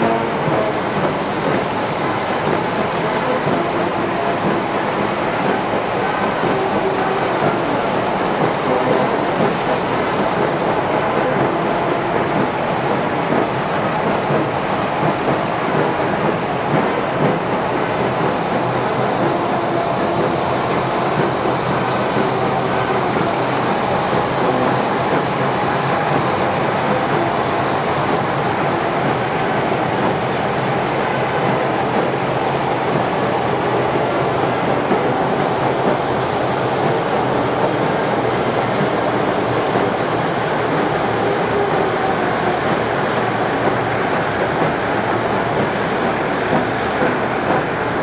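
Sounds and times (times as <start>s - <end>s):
clattering tracks: 0.0s - 48.0s.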